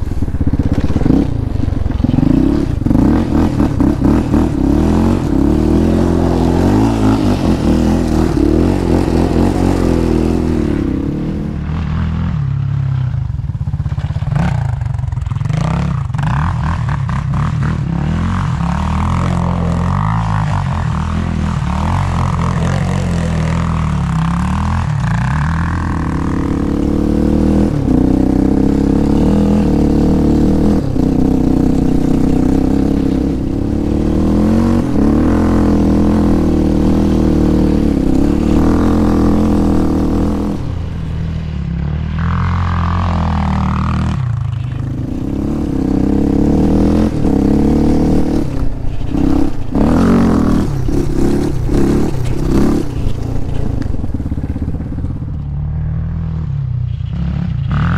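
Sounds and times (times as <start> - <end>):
quad bike engine revving: 0.0 - 57.9.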